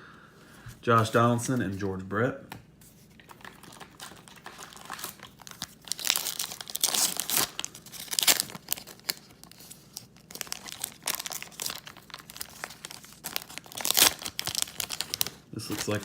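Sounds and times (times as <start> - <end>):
rustling of wrapper and cards: 2.8 - 16.0
card pack wrapper tearing and crinkling: 3.2 - 16.0.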